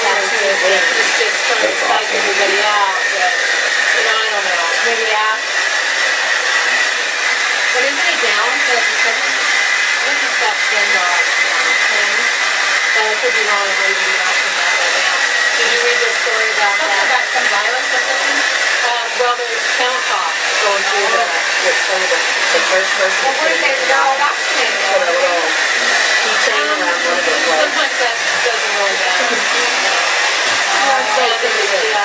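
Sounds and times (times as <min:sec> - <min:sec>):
hair dryer blowing: 0:00.0 - 0:32.0.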